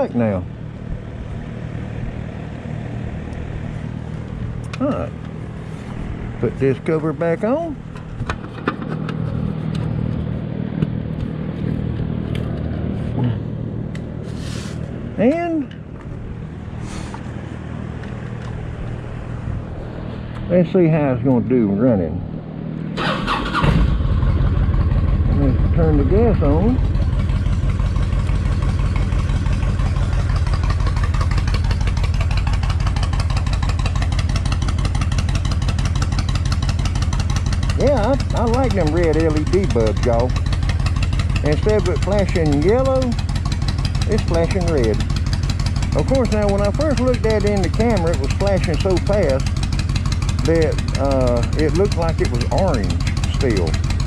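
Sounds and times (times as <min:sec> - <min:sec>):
low engine-like hum: 0:00.0 - 0:54.0.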